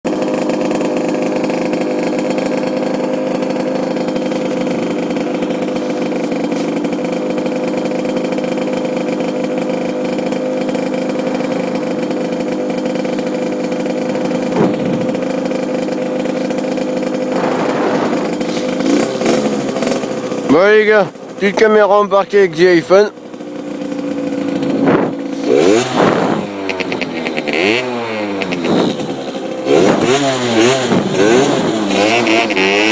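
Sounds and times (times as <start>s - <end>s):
two-stroke engine idling: 0.1s - 32.9s.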